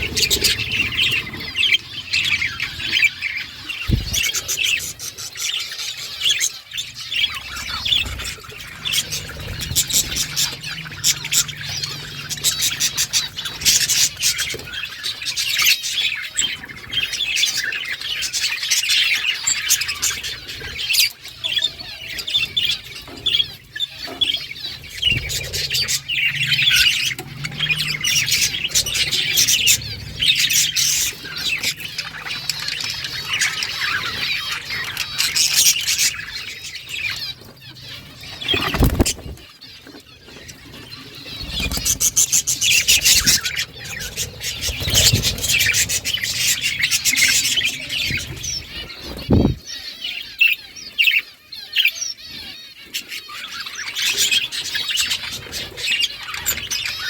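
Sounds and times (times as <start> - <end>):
budgerigars chirping and chattering: 0.0 - 57.0.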